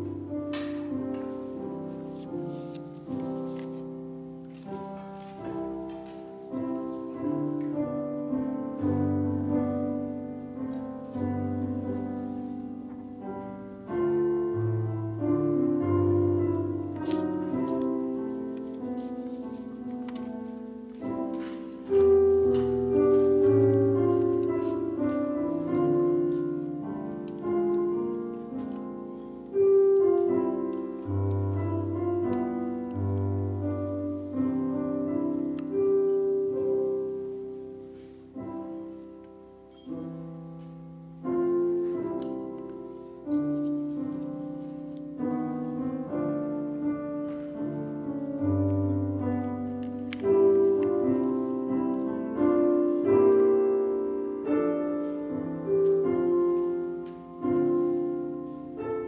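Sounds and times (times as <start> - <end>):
slow piano piece: 0.0 - 59.0.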